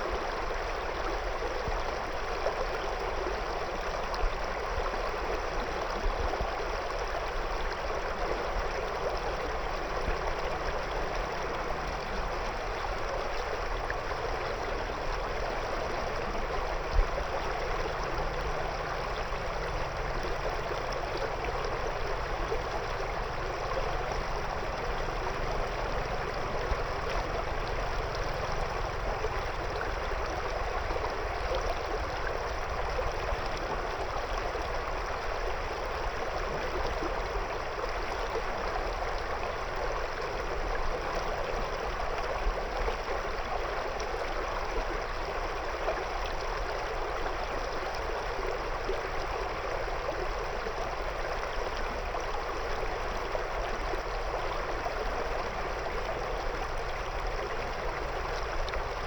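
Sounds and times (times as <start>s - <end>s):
river water rushing over stones: 0.0s - 59.0s.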